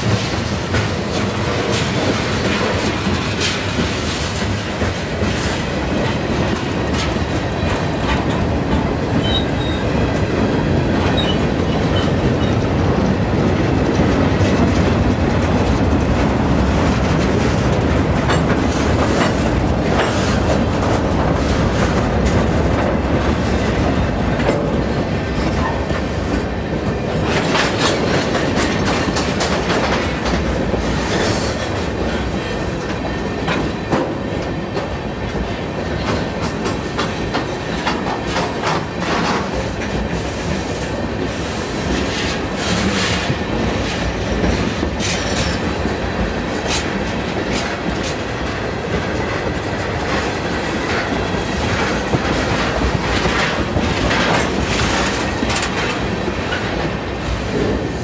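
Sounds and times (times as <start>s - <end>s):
train wheels rumbling: 0.0s - 58.0s
wheels clacking over rail joints: 0.0s - 58.0s.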